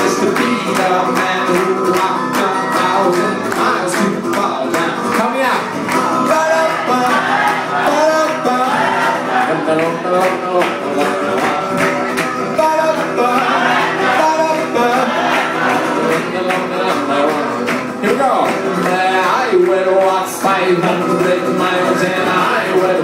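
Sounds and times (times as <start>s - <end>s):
acoustic guitar: 0.0s - 23.0s
man singing: 0.0s - 23.0s.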